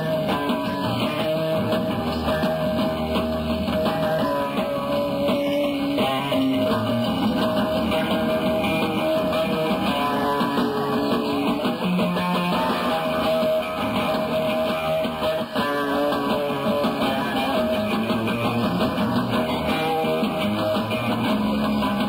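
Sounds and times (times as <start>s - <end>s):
electric guitar: 0.0s - 22.0s
live rock band playing: 0.0s - 22.0s.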